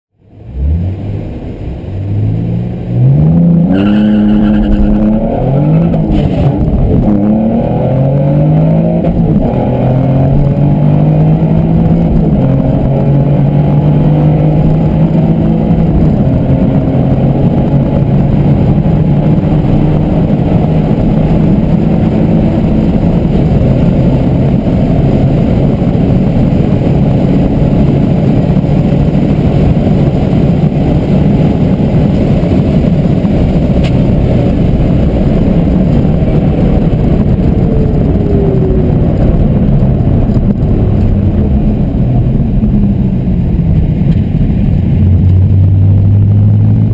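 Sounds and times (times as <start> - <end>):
car engine at full throttle: 0.1 - 46.9.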